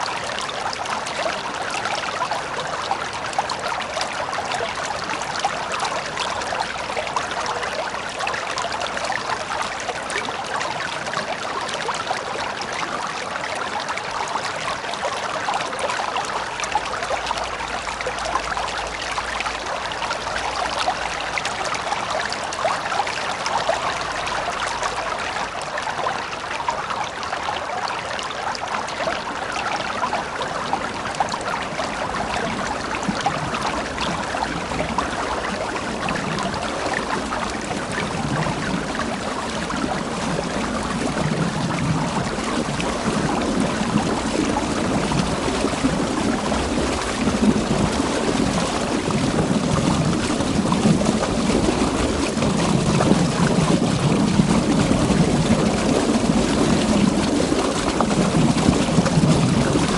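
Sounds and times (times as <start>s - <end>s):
river water rushing over stones: 0.0s - 59.9s.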